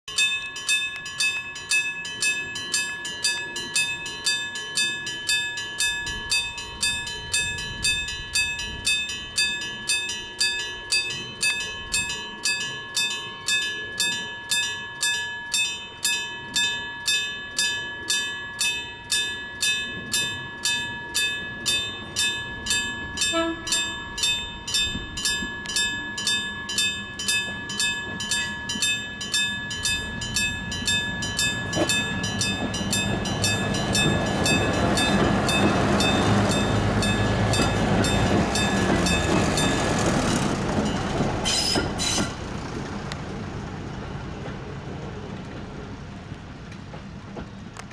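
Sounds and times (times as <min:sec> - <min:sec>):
level crossing warning bell: 0:00.1 - 0:43.1.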